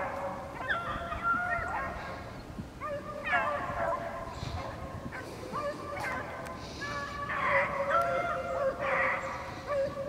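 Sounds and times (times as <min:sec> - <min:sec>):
dogs baying and yelping: 0:00.0 - 0:10.0.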